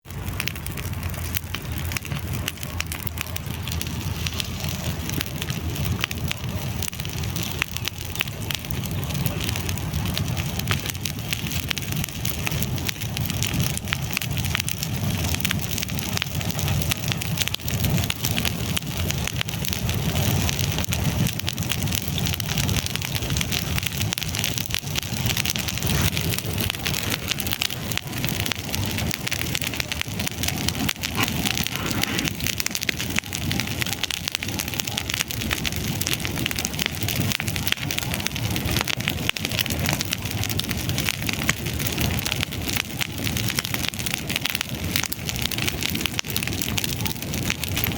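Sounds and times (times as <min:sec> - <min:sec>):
campfire crackling and popping: 0:00.0 - 0:47.9
fire low rumble: 0:00.0 - 0:47.9.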